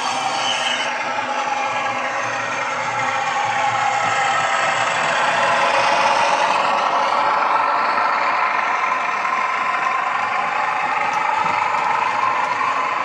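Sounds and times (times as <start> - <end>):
diesel engines through small speaker: 0.0 - 13.0.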